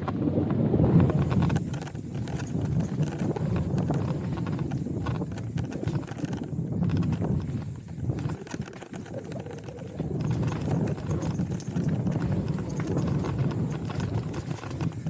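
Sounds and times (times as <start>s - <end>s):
bike rattling: 0.0s - 15.0s
bike tyres rolling over stones: 0.0s - 15.0s.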